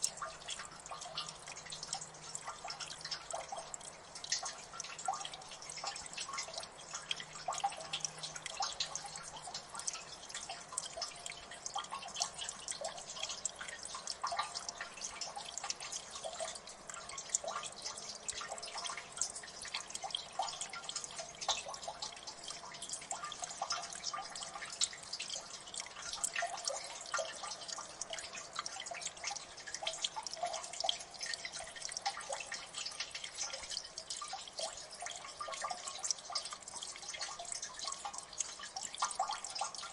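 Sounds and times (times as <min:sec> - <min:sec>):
faint running water hiss: 0:00.0 - 0:39.9
water dripping plinks: 0:00.0 - 0:39.9.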